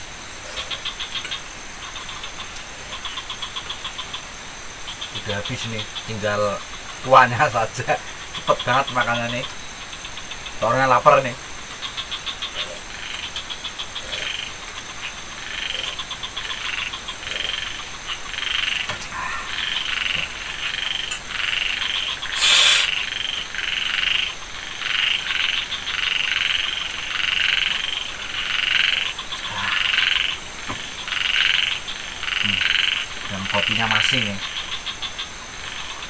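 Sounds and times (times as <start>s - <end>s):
frogs croaking: 0.0s - 36.0s.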